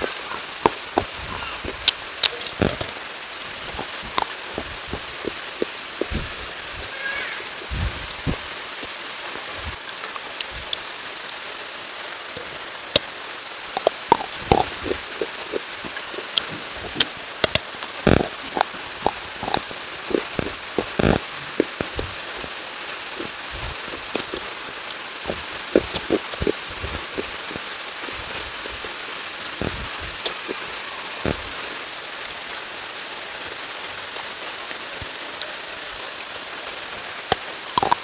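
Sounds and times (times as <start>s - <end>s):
rain hissing: 0.0s - 38.0s.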